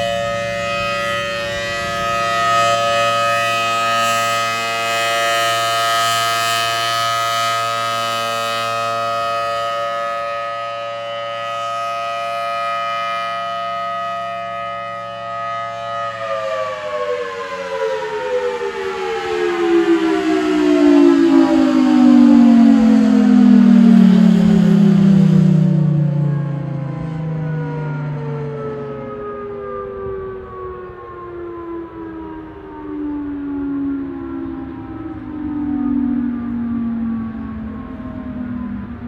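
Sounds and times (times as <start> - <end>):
siren alert tone winding down: 0.0 - 39.0.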